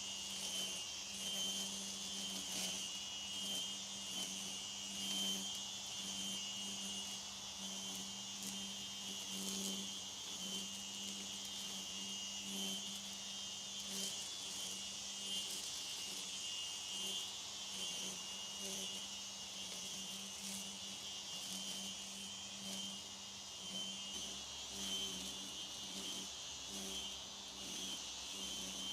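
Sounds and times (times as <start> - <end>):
string trimmer cutting grass: 0.0 - 28.9.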